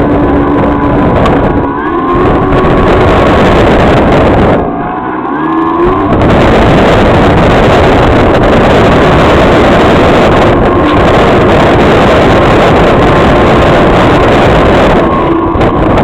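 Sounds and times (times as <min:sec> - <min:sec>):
plane motor and propeller: 0:00.0 - 0:16.0
wind rush on camera: 0:00.0 - 0:16.0.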